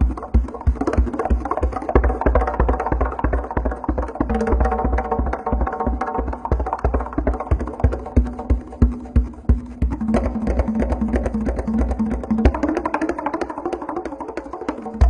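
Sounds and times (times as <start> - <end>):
fast machine-like drumming: 0.0 - 15.0.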